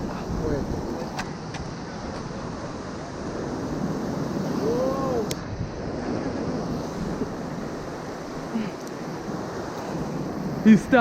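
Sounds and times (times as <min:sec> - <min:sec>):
ocean surf on rocky shore: 0:00.0 - 0:11.0
wind buffeting microphone: 0:00.0 - 0:11.0.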